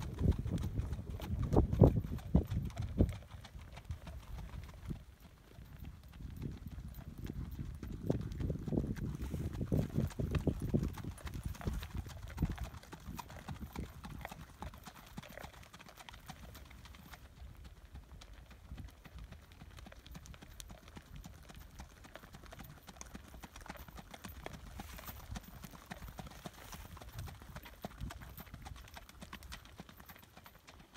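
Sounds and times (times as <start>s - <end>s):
horse hooves on dirt: 0.0s - 30.9s.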